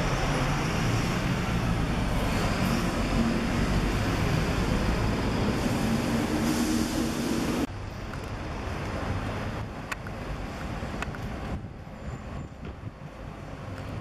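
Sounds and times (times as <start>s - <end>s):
diesel bus engine rumbling: 0.0s - 14.0s.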